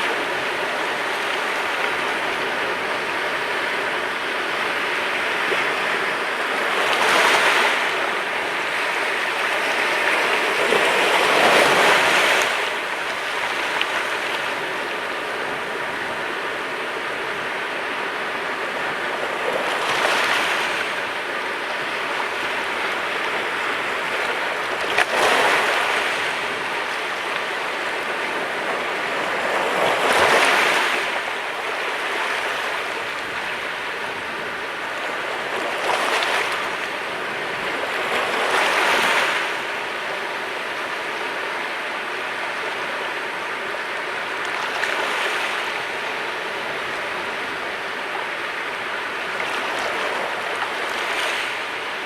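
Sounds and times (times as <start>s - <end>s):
sea waves washing onto shore: 0.0s - 52.0s.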